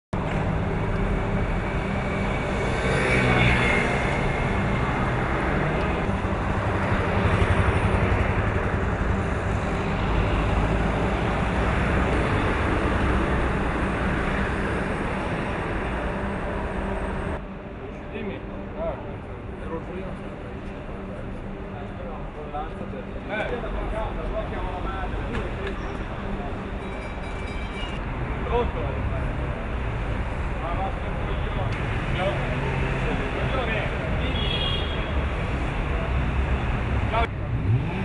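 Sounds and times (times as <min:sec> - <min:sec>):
vehicles passing: 0:00.2 - 0:38.0.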